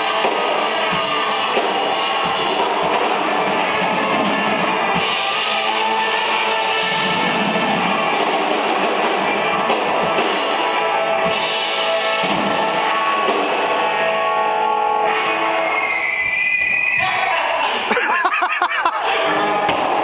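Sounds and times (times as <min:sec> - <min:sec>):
rock band playing live: 0:00.0 - 0:17.0, 0:18.8 - 0:20.0.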